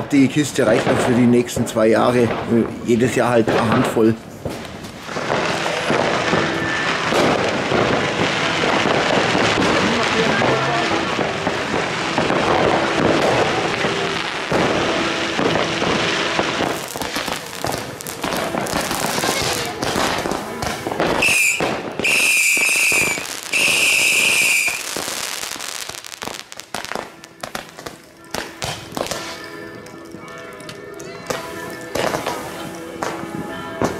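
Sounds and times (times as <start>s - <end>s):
fireworks crackling and banging: 0.0s - 33.9s
whistling fireworks: 3.5s - 30.4s, 31.0s - 33.9s.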